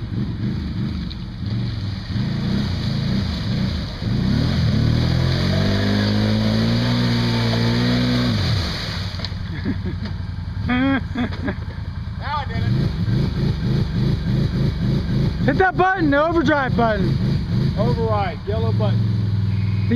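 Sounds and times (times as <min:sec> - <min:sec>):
atv engine revving: 0:00.0 - 0:19.9
tires churning mud: 0:00.0 - 0:19.9.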